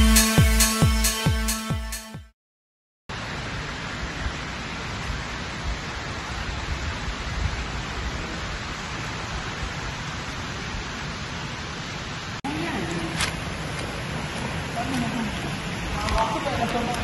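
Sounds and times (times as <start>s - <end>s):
fountain water splashing: 3.1s - 17.0s.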